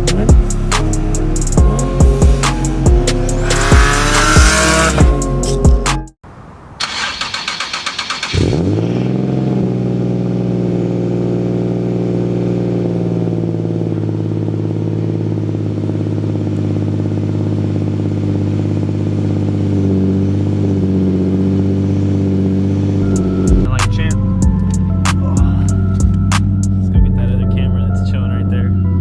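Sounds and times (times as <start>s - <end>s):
car engine starting and idling: 0.0s - 29.0s.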